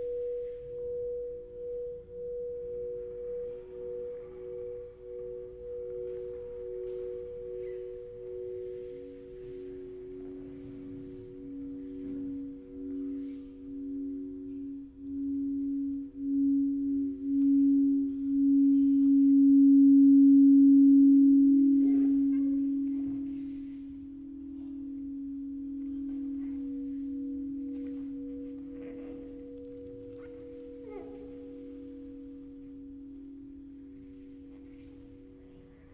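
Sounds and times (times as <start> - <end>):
sustained ringing tones: 0.0 - 35.9.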